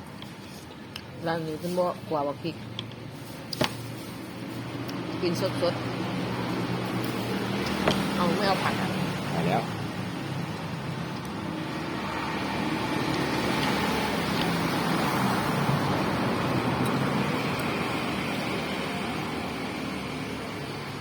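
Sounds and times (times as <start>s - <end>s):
vehicle passing close by: 4.1s - 21.0s.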